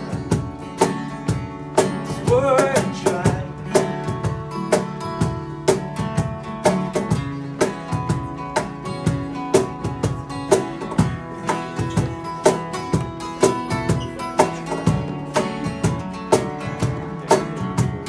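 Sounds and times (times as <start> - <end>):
steady drum beat with strong hits: 0.0 - 18.0
strummed acoustic guitar: 0.0 - 18.0.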